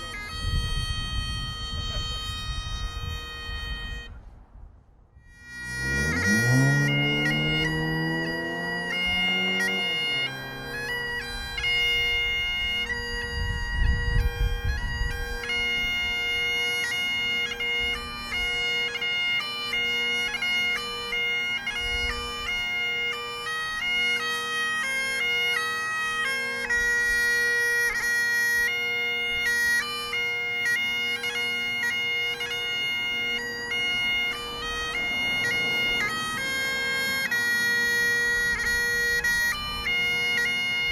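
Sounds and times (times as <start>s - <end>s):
bagpipes playing a tune: 0.0s - 4.2s, 5.2s - 40.9s.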